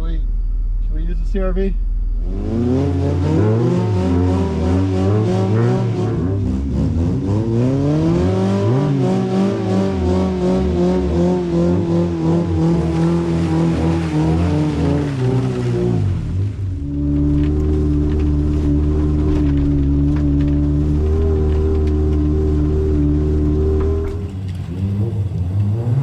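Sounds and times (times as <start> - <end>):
car engine revving hard: 2.2 - 26.0.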